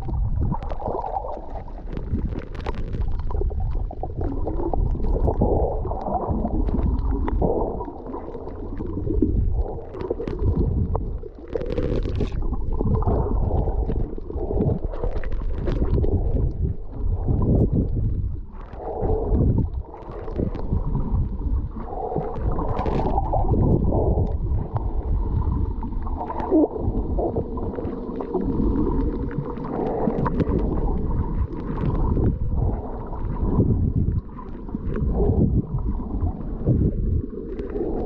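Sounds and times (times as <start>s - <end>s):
low underwater rumble: 0.0s - 38.0s
muffled underwater gurgle: 0.0s - 38.0s
splashes and bubble bursts: 0.0s - 38.0s.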